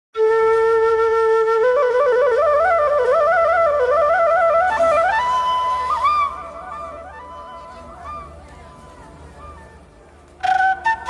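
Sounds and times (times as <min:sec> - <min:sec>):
flute melody: 0:00.2 - 0:11.0.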